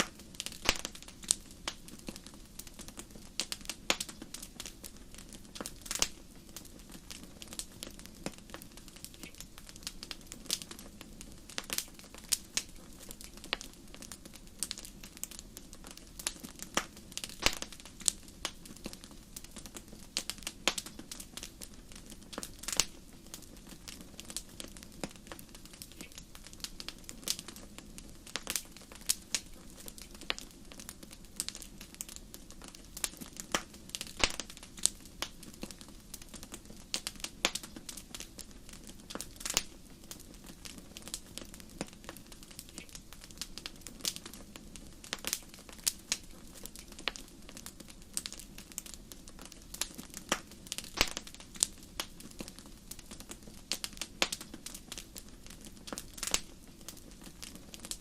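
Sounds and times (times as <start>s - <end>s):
low hiss of flames: 0.0s - 58.0s
wood fire crackling and popping: 0.0s - 58.0s.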